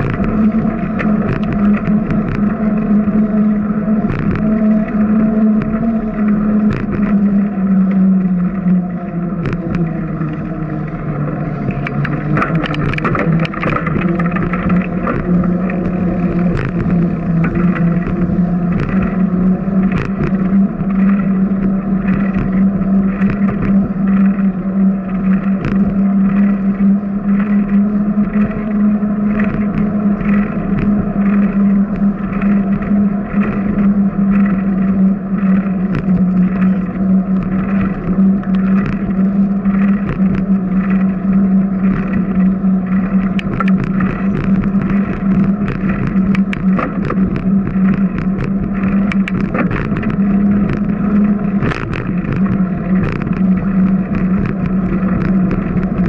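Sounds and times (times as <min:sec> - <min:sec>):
bicycle riding on concrete: 0:00.0 - 0:56.0.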